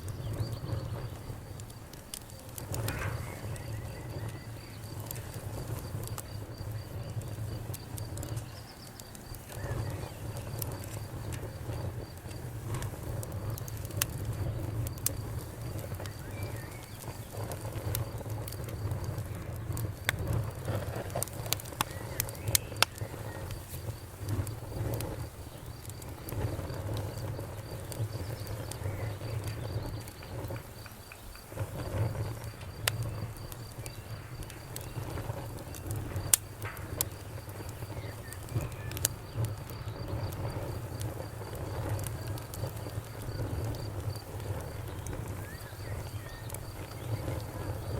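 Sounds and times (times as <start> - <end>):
low rumble of burning fire: 0.0 - 47.9
wood fire crackling: 0.0 - 47.9.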